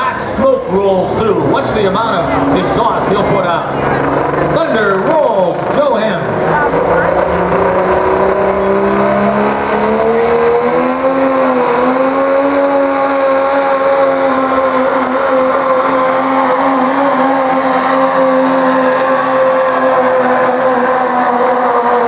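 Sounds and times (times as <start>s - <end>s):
high whine: 0.0s - 21.8s
diesel truck engine under load: 0.0s - 22.0s.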